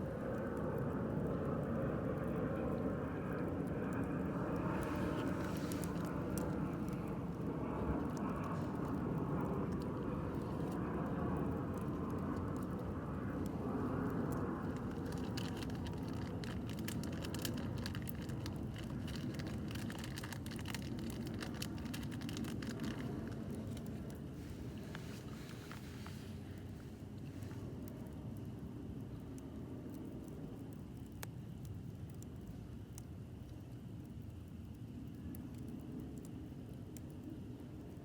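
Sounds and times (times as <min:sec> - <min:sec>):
campfire crackling and popping: 0:00.0 - 0:38.0
steady low rumble: 0:00.0 - 0:38.0.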